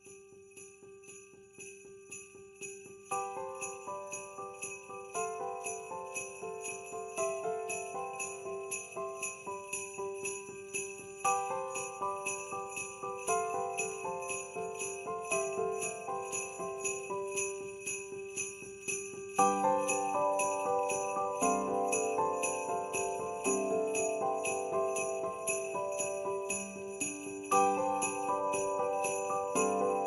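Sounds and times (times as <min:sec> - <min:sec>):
jingle bells shaking: 0:00.0 - 0:30.0.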